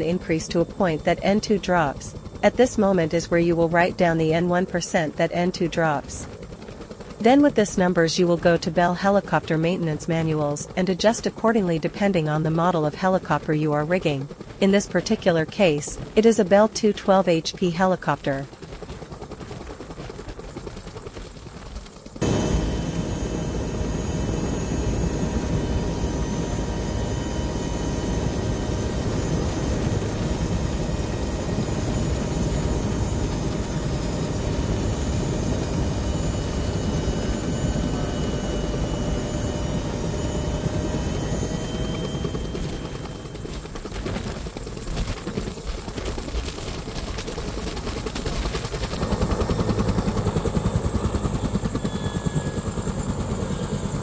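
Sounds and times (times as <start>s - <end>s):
helicopter rotor noise: 0.0s - 54.0s
helicopter turbine whine: 0.0s - 54.0s.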